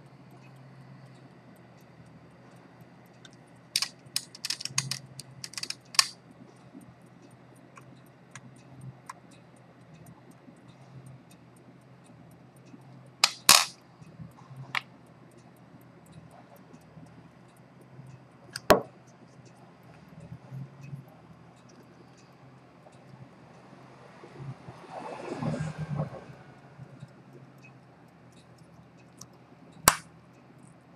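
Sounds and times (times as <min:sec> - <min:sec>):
clicks of watch parts and tools: 0:00.3 - 0:23.1, 0:26.9 - 0:30.8.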